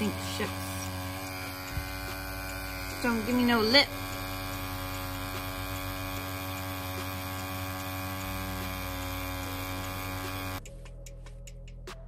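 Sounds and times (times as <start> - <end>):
tattoo pen motor humming: 0.0 - 10.7.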